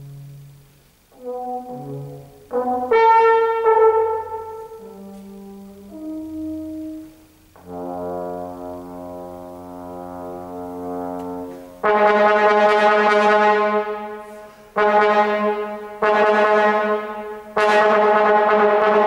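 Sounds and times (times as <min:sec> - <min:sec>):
solo trombone playing: 0:00.0 - 0:19.0.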